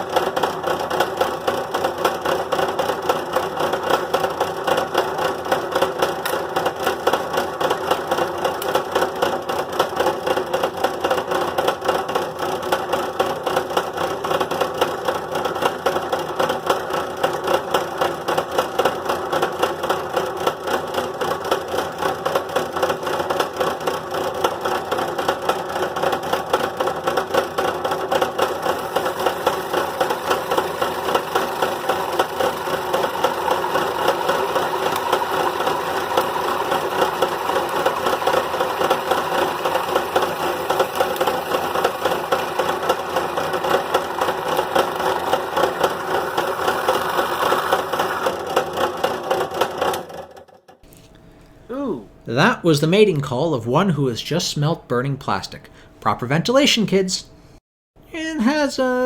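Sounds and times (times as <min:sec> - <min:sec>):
drill press cutting plastic: 0:00.0 - 0:50.5.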